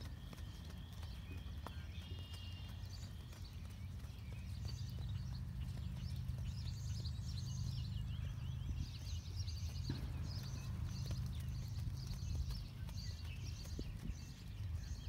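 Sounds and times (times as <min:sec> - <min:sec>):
horse hoofbeats on grass: 0:00.0 - 0:15.0
steady low rumble: 0:00.8 - 0:15.0.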